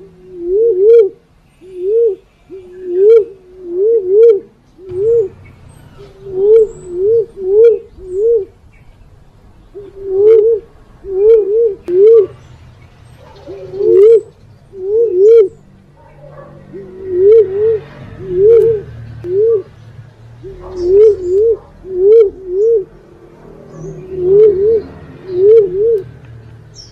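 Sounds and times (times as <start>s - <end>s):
dove cooing: 0.0s - 8.6s, 9.7s - 12.4s, 13.2s - 19.8s, 20.4s - 26.2s.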